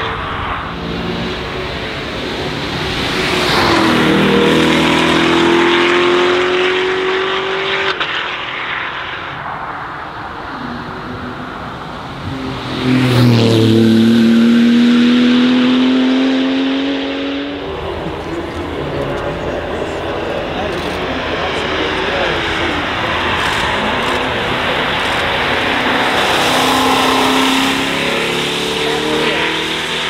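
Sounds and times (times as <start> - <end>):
cars accelerating past: 0.0 - 30.0.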